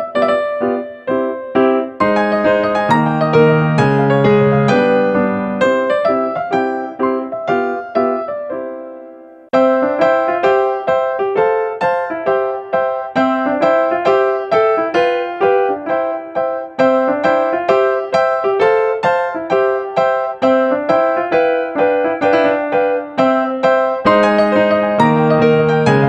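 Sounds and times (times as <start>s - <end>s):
bouncy piano tune: 0.0s - 26.0s.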